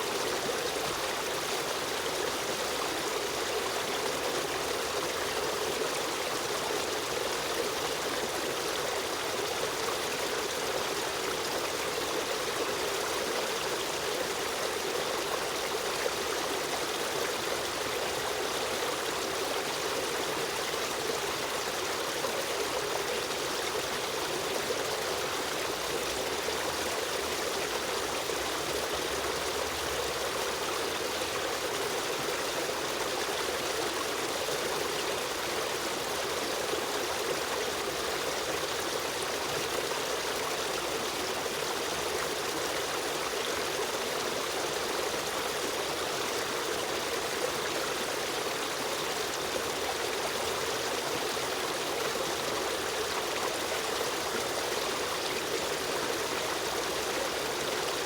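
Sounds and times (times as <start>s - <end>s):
stream rushing and trickling: 0.0s - 58.0s.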